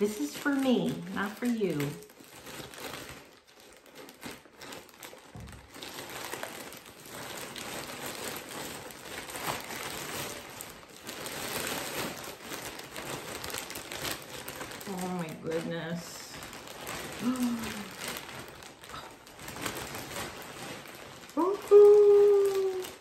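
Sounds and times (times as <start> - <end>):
wrapping crinkling and rustling: 0.0 - 23.0.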